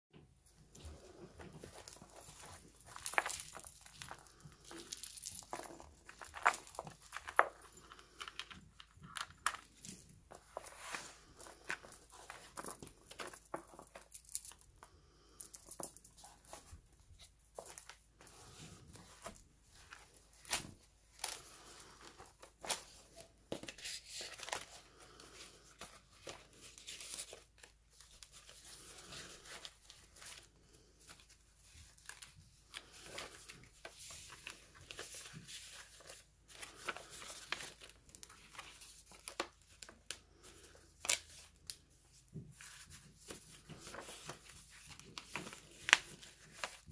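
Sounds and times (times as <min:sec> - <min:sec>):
paper pages rustling: 0:00.9 - 0:14.2, 0:16.2 - 0:41.7, 0:42.5 - 0:46.9.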